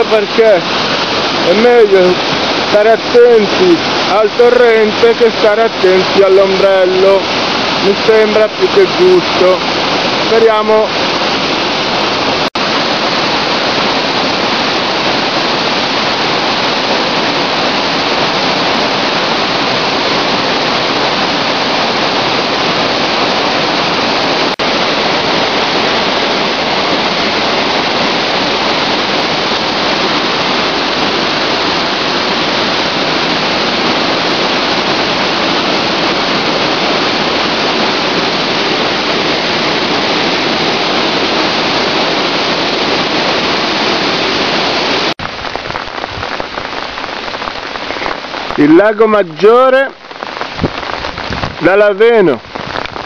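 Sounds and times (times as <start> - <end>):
mountain torrent rushing: 0.0 - 53.0.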